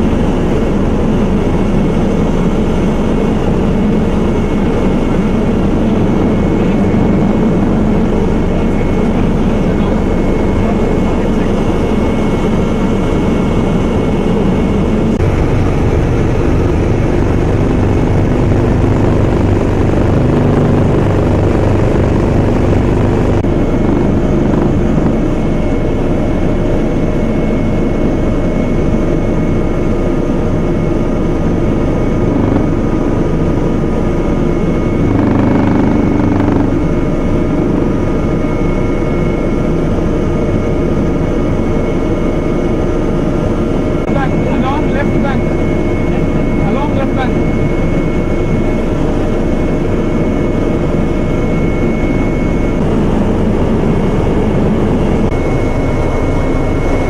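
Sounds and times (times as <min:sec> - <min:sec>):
constant high whine: 0:00.0 - 0:57.0
helicopter engine and rotor drone: 0:00.0 - 0:57.0.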